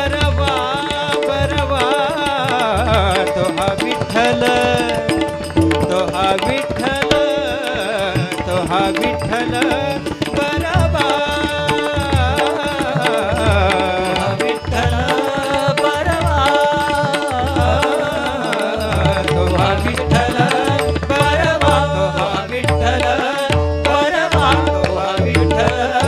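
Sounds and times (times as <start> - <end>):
man singing devotional song: 0.0 - 26.0.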